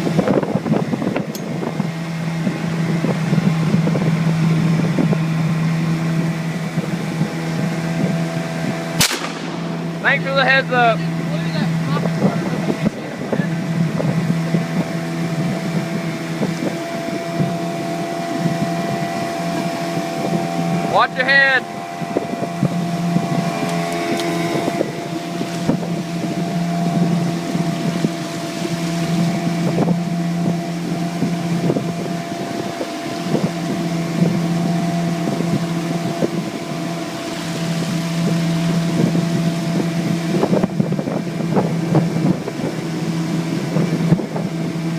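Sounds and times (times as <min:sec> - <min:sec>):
outboard motor running: 0:00.0 - 0:44.9
wind on microphone: 0:00.0 - 0:44.9.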